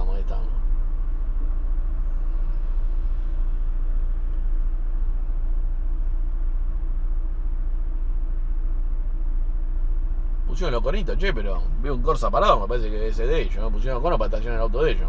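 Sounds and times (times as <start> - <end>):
passing traffic: 0.0 - 15.0
van engine idling: 0.0 - 15.0.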